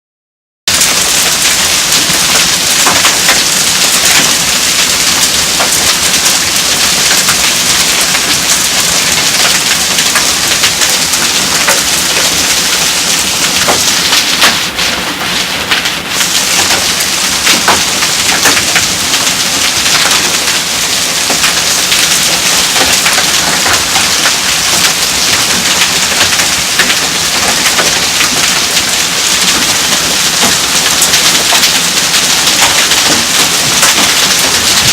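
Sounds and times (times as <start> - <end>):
hail falling: 0.7 - 34.9
hailstones ticking: 0.7 - 34.9.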